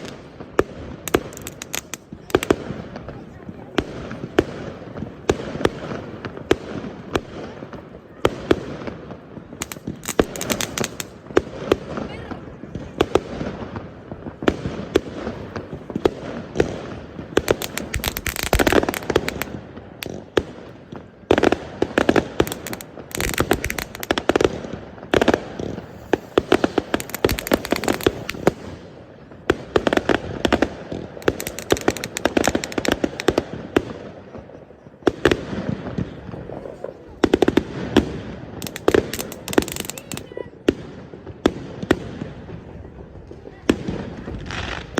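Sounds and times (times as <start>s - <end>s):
fireworks crackling and banging: 0.0s - 44.9s.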